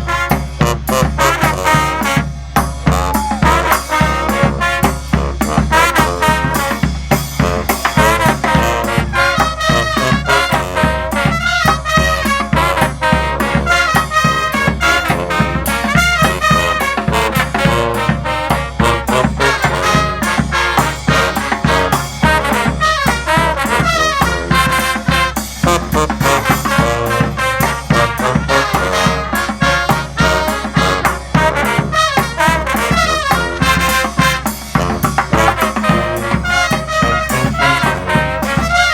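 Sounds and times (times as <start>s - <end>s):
brass band playing: 0.0s - 38.9s
percussion beat: 0.0s - 38.9s.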